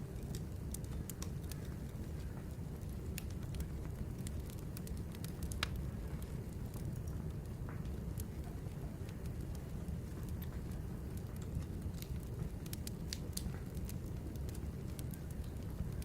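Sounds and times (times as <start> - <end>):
fire crackles and pops: 0.0 - 16.0.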